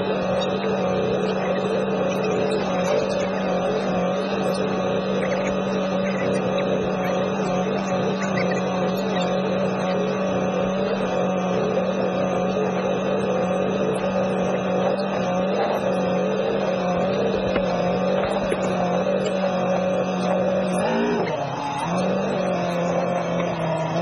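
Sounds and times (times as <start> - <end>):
outboard motor humming: 0.0 - 24.0.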